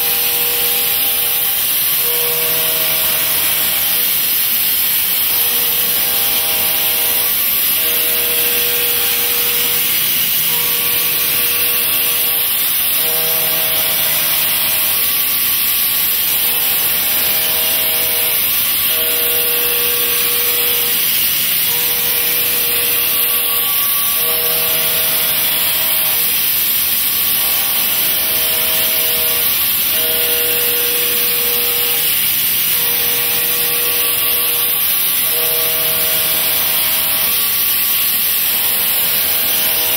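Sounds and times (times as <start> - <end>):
milling cutter machining steel: 0.0 - 39.9.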